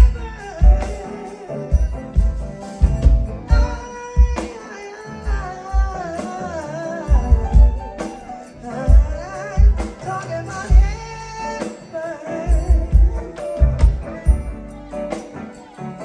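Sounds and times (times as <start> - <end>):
live funk band playing: 0.0 - 16.0
person singing: 0.0 - 16.0.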